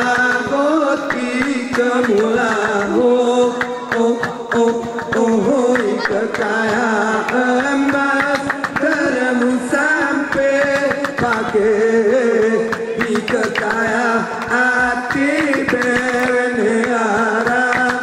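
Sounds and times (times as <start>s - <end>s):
group of men singing: 0.0s - 18.0s
rhythmic hand claps: 0.0s - 18.0s.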